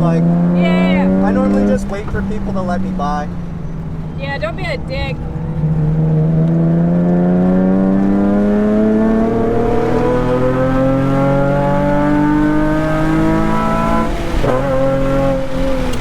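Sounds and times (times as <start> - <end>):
car engine revving up: 0.0 - 16.0.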